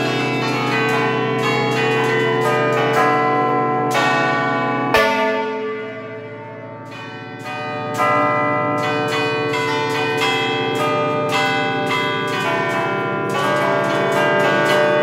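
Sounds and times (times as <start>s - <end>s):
church bells pealing: 0.0s - 15.0s.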